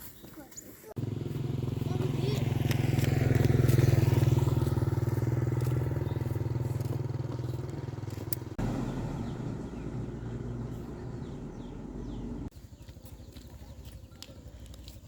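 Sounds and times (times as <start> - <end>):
motorbike engine running: 1.0 - 15.0.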